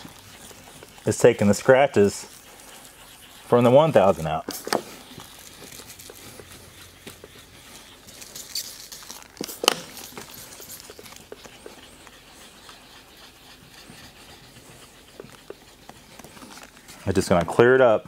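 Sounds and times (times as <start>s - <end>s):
sandpaper rubbing on plastic: 0.0s - 18.0s.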